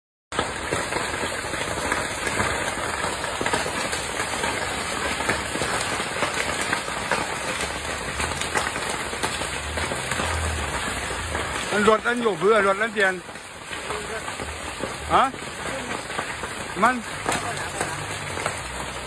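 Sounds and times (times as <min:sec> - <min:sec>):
fire rushing crackling and popping: 0:00.3 - 0:19.0.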